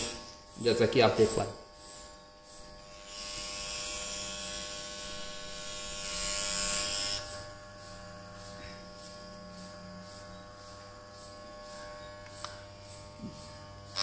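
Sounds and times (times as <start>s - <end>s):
clipper blades cutting hair: 0.0s - 14.0s
electric hair clipper buzzing: 0.0s - 14.0s.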